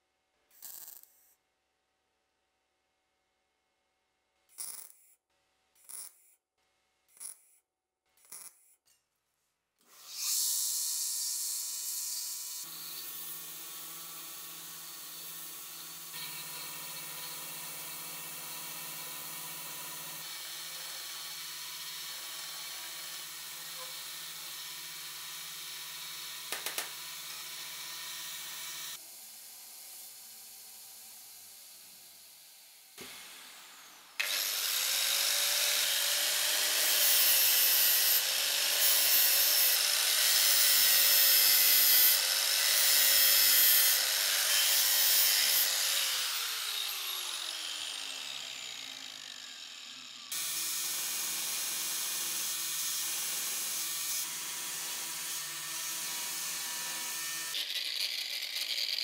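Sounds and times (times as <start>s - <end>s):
power tool grinding metal: 9.9s - 29.3s, 29.9s - 59.0s.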